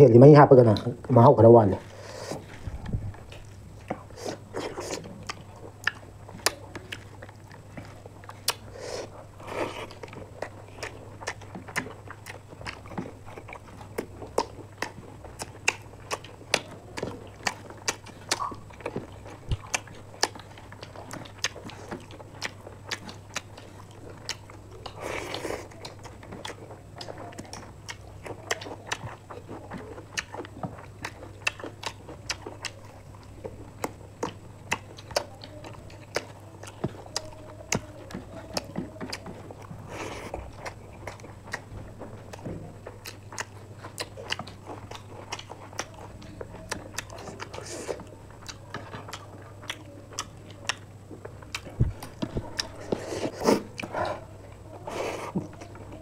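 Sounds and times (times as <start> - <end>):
steady low hum: 0.0 - 56.0
people chewing and lip smacking: 1.8 - 56.0.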